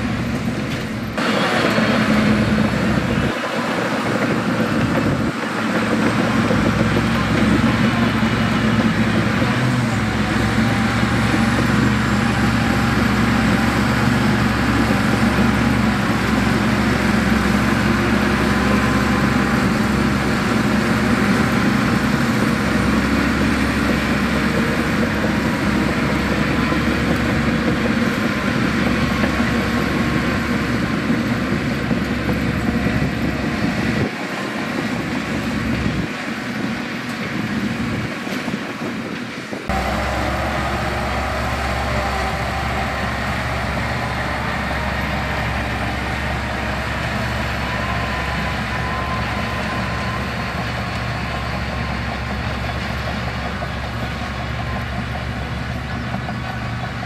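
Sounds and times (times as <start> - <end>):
diesel engine deep rumble: 0.0 - 57.0.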